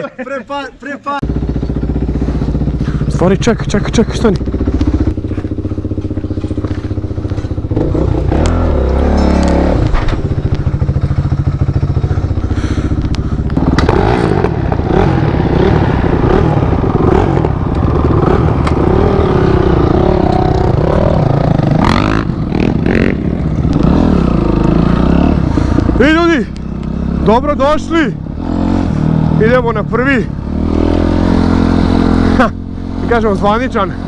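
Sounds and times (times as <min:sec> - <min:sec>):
motorcycle engine running: 0:01.2 - 0:34.0.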